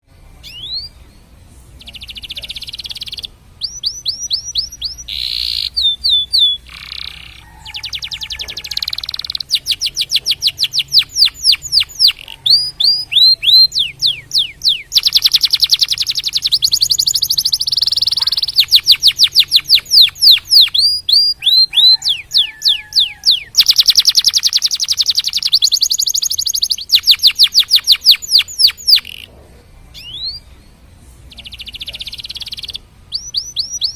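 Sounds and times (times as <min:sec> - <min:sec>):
canary singing trills: 0:00.1 - 0:33.9.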